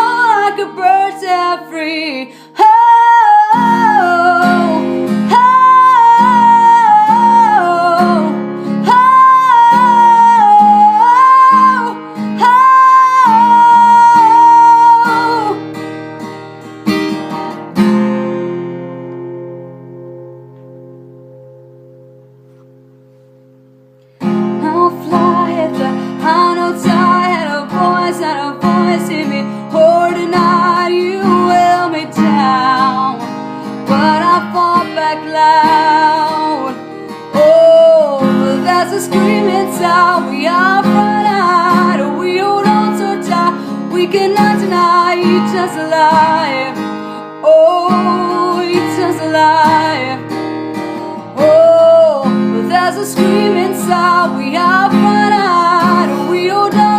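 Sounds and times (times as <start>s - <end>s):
pop song with guitar chords: 0.0s - 23.3s, 24.0s - 56.9s.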